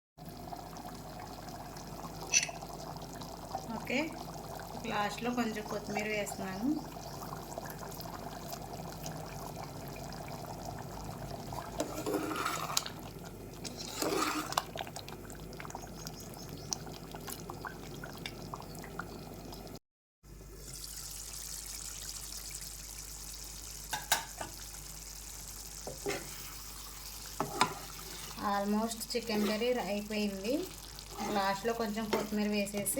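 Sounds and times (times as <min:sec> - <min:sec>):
curry bubbling in a pan: 0:00.2 - 0:19.8, 0:20.8 - 0:32.9.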